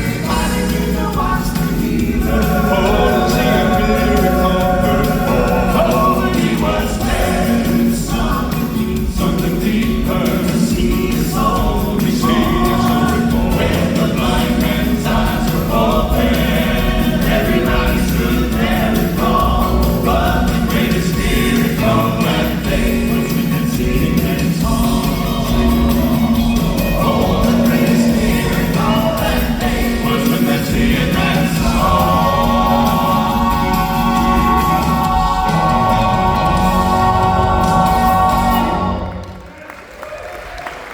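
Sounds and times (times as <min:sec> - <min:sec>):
gospel group singing in harmony: 0:00.0 - 0:39.5
instrumental accompaniment: 0:00.0 - 0:39.5.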